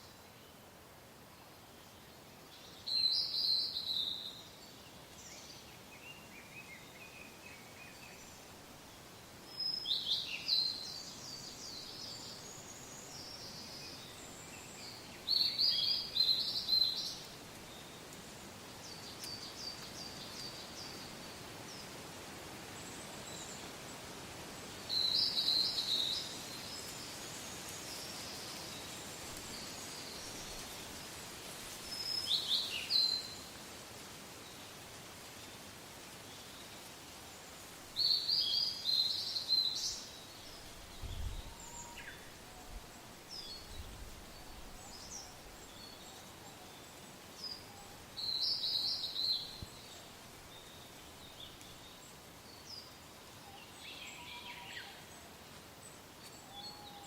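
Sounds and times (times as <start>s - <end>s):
soft hiss of wind: 0.0s - 57.0s.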